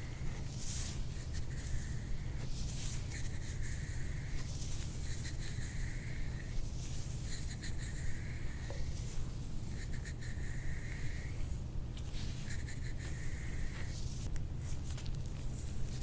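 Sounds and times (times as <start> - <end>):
rubbing or scratching strokes: 0.0 - 16.0
steady low hum: 0.0 - 16.0.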